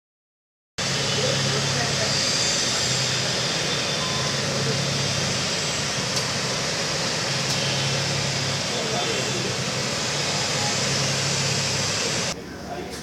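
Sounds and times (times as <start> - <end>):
city traffic roar: 0.8 - 13.0
low engine-like hum: 0.8 - 13.0.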